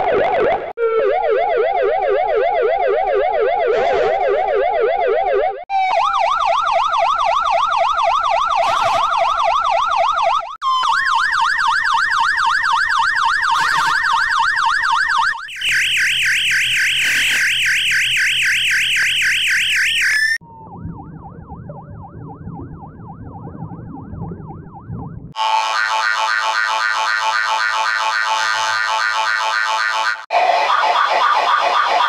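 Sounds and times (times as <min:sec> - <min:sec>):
ambulance siren warbling: 0:00.0 - 0:32.0.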